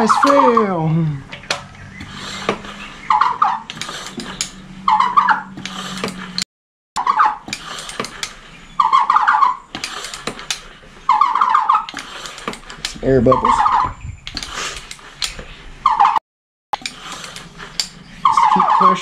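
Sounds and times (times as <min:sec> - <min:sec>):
pump sprayer plunger squeaking: 0:00.0 - 0:06.4, 0:07.0 - 0:16.2, 0:16.8 - 0:19.0.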